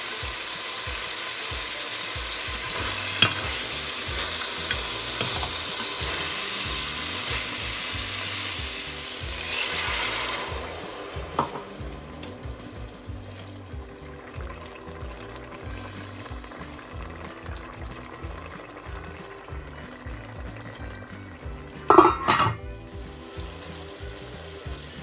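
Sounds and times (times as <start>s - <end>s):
food sizzling in a pot: 0.0s - 25.0s.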